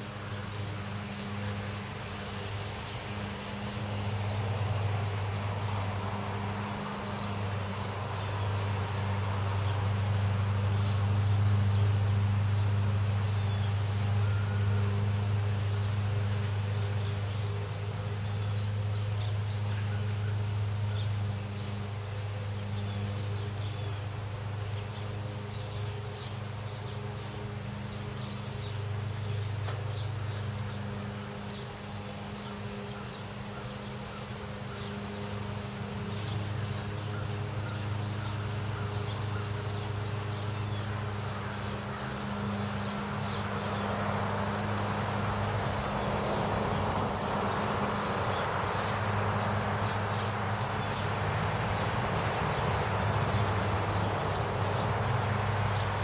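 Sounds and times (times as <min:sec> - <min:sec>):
car traffic hum: 0:00.0 - 0:56.0.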